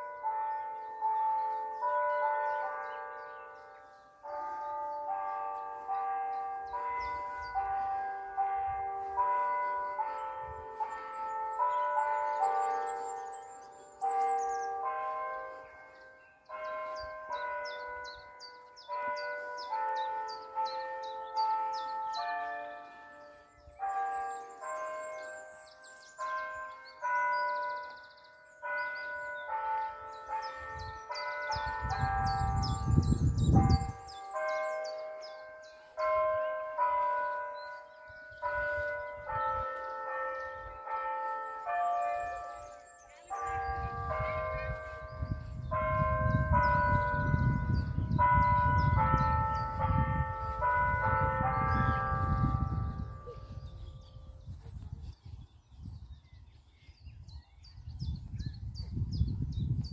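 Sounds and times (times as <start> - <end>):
church bells ringing: 0.0 - 59.9
small birds chirping: 0.5 - 8.4, 9.0 - 59.9
high bird trill: 9.0 - 57.5.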